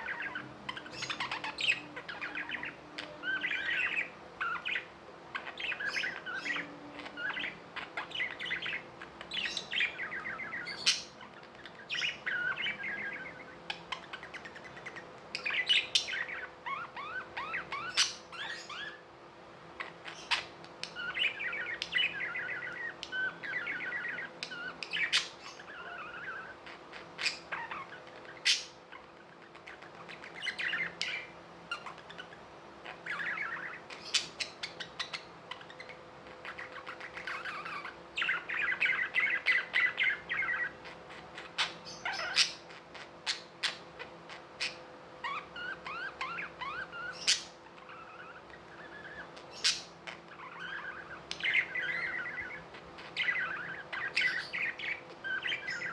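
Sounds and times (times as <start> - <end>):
budgerigars chirping and warbling: 0.0 - 55.9.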